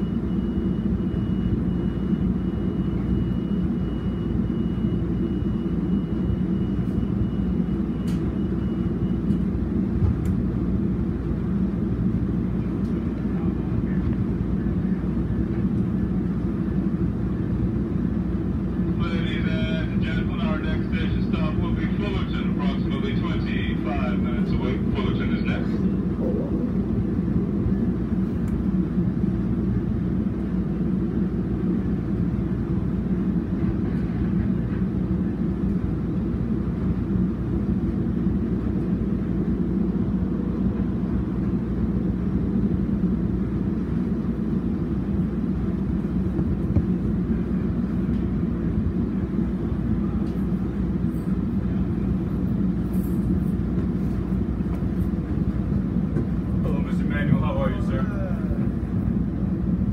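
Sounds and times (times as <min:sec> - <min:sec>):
diesel train rumbling: 0:00.0 - 0:59.9.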